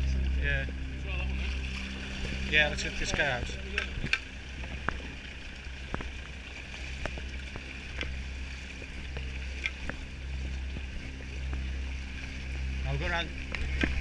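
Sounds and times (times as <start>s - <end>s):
low engine hum: 0.0s - 14.0s
footsteps wading through water: 1.2s - 14.0s.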